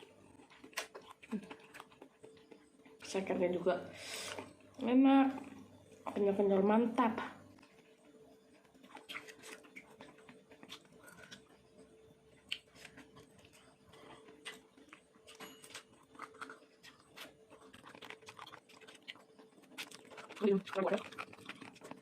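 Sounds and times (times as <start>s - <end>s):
close-up chewing: 0.0s - 4.8s, 7.4s - 22.0s.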